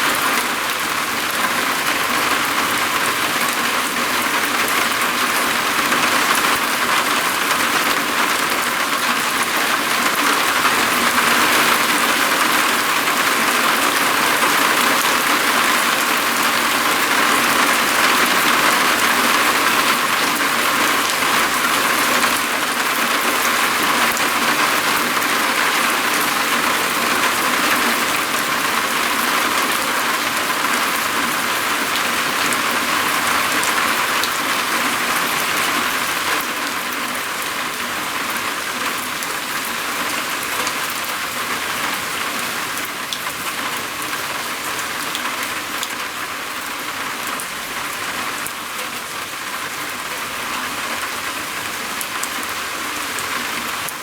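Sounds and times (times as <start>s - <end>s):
rain falling on a roof: 0.0s - 54.0s.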